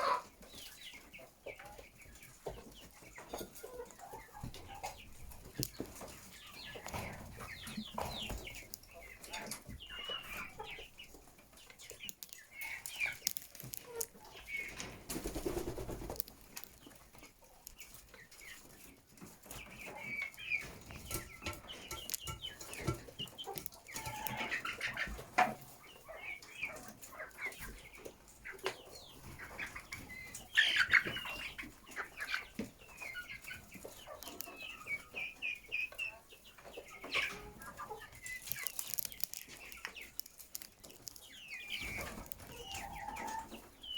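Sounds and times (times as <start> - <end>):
chickens clucking: 0.0 - 43.9.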